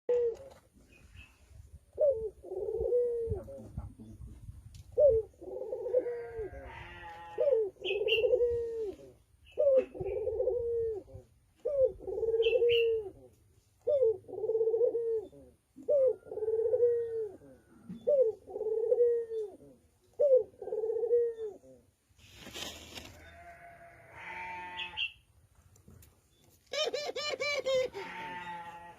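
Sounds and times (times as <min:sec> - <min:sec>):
dove cooing: 0:00.1 - 0:04.3, 0:04.9 - 0:22.0, 0:26.7 - 0:28.9.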